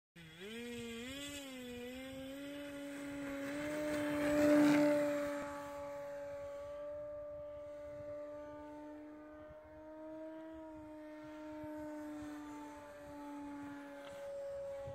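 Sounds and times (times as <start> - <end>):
electric model plane motor whining: 0.2 - 14.9.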